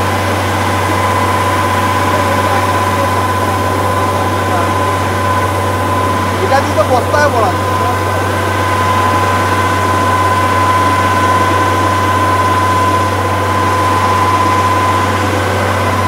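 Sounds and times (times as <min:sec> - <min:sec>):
combine harvester engine hum: 0:00.0 - 0:16.0
high machinery whine: 0:00.0 - 0:16.0.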